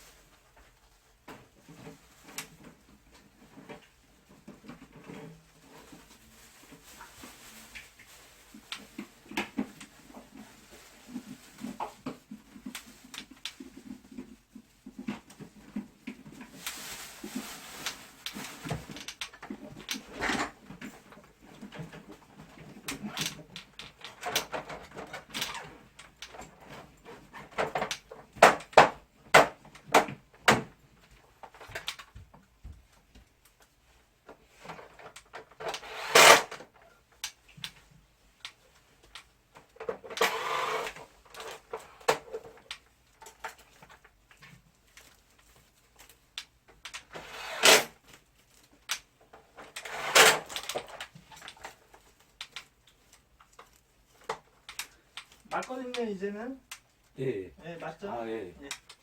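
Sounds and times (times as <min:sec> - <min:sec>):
scrapes and rustles: 0:00.0 - 0:57.2.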